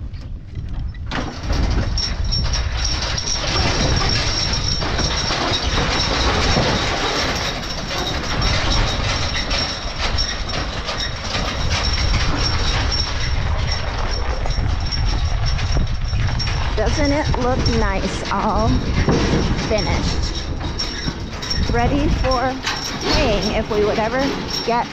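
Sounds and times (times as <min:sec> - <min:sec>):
wagon rattling and clanking: 0:00.0 - 0:24.9
wheels rumbling: 0:00.0 - 0:24.9.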